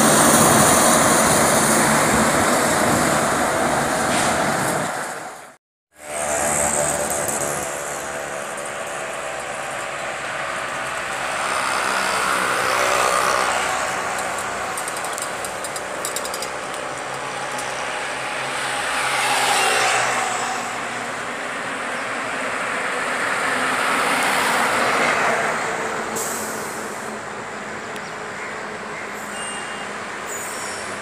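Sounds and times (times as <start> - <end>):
vehicles passing: 0.0 - 31.0
engine hum: 6.0 - 31.0.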